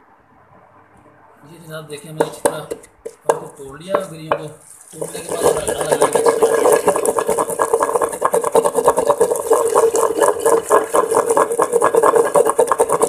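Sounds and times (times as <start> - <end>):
pestle grinding in mortar: 2.1 - 13.0.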